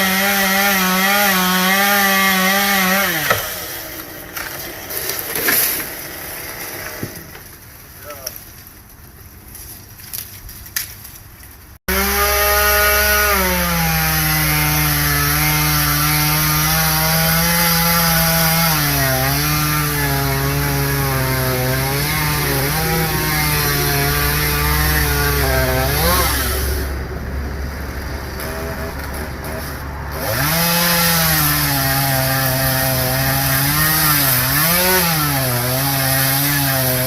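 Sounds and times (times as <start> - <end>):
chainsaw cutting wood: 0.0 - 7.6, 11.9 - 27.0, 28.3 - 37.0.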